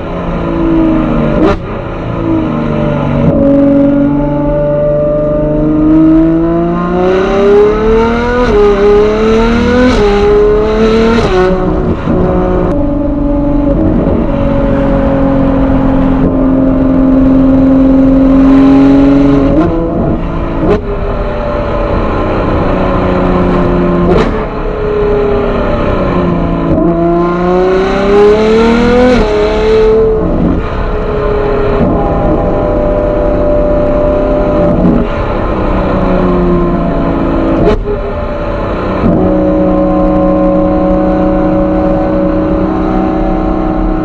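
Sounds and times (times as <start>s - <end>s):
sports car engine accelerating: 0.0s - 44.0s.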